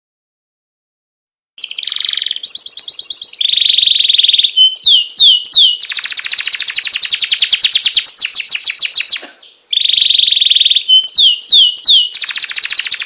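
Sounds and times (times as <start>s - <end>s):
songbird rolling trills: 1.6s - 13.0s.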